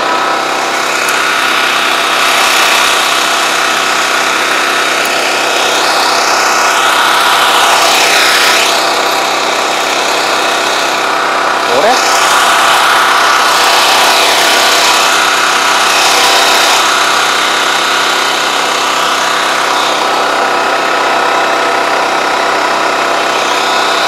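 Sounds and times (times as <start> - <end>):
spraying machine engine hum: 0.0 - 24.0.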